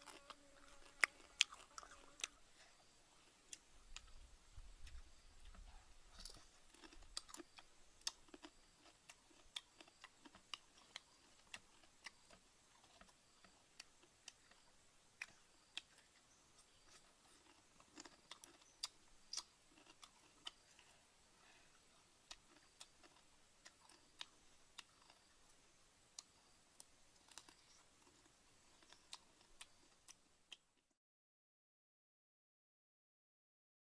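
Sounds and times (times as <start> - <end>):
person chewing crunchy food: 0.0 - 2.4, 4.8 - 25.4, 26.2 - 30.6.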